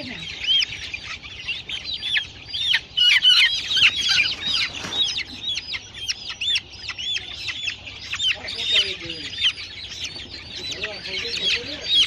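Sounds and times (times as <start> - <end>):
chickens peeping: 0.0 - 12.0.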